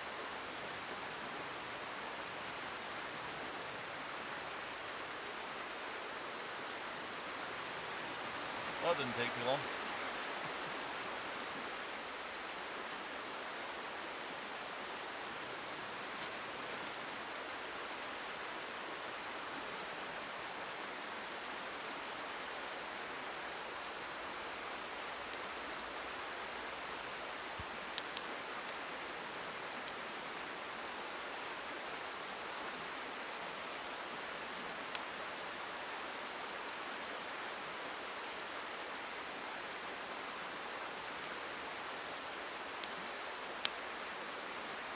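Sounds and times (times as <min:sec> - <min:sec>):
river rushing: 0:00.0 - 0:44.9.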